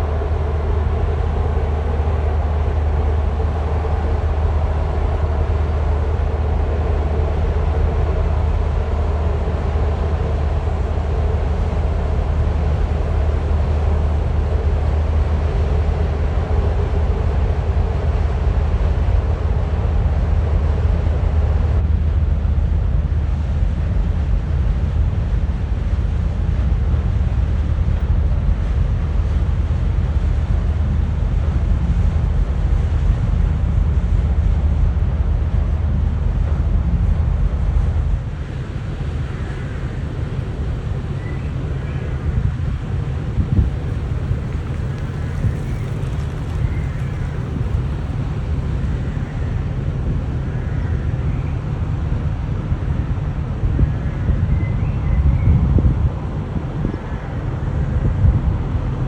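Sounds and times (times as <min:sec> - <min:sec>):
mid-pitched hum: 0:00.0 - 0:59.0
ship engine rumble: 0:00.0 - 0:59.0.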